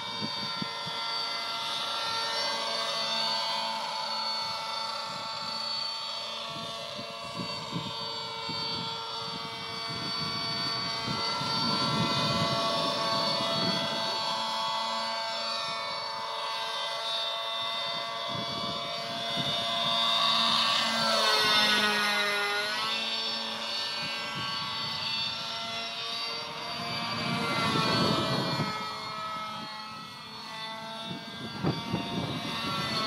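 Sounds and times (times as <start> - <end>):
model helicopter engine buzzing: 0.0 - 33.0.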